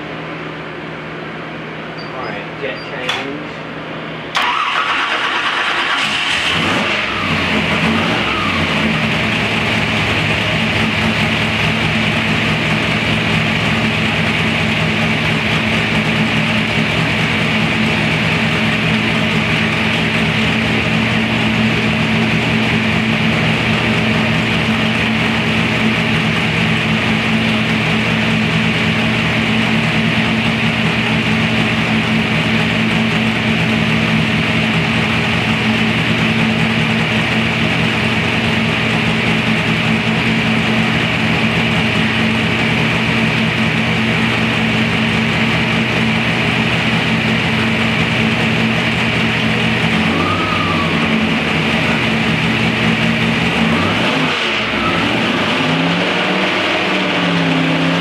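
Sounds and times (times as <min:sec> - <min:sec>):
racing engine idling: 0:03.5 - 0:58.0.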